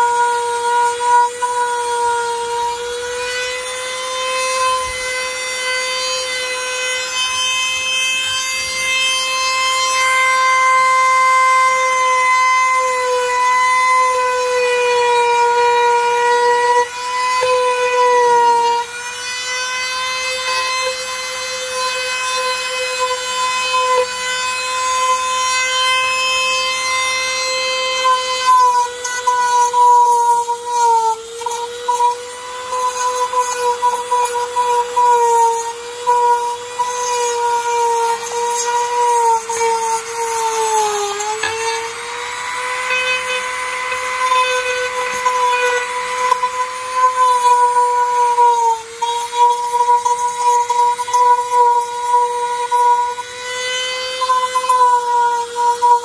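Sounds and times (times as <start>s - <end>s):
power tool motor whining: 0.0s - 56.0s.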